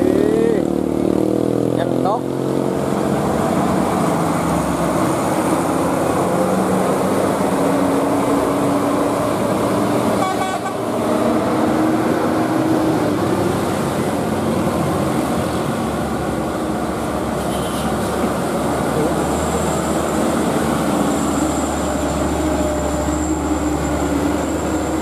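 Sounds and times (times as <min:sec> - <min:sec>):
diesel engines droning: 0:00.0 - 0:25.0
heavy road noise: 0:00.0 - 0:25.0.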